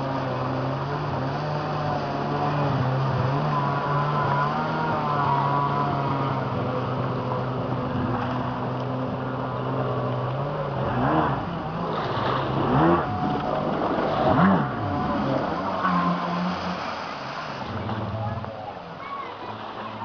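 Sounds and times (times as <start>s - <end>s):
jet ski engine revving: 0.0s - 20.0s.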